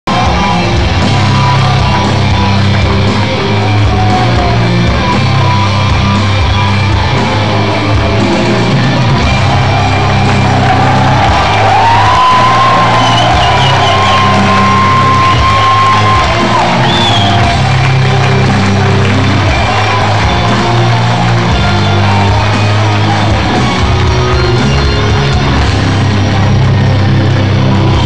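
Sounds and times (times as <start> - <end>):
heavy metal music with distorted guitar: 0.1 - 28.0.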